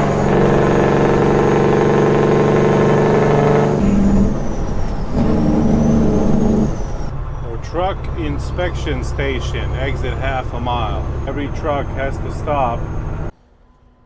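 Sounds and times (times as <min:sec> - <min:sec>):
diesel engine brake drone: 0:00.0 - 0:13.3.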